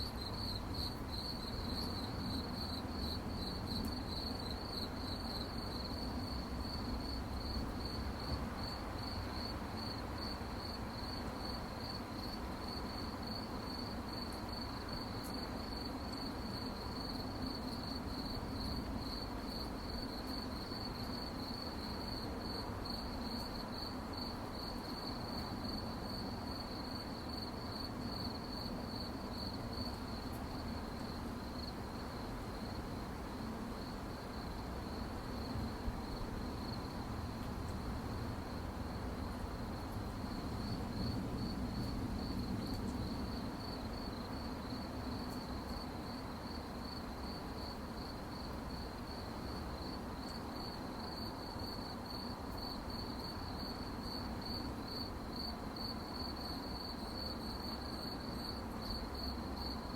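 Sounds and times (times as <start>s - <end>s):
crickets chirping: 0.0s - 59.9s
faint low background hiss: 0.0s - 59.9s.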